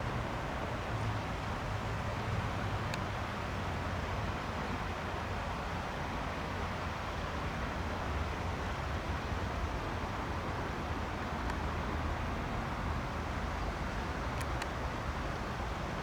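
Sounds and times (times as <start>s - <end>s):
low rush of outdoor noise: 0.0s - 16.0s.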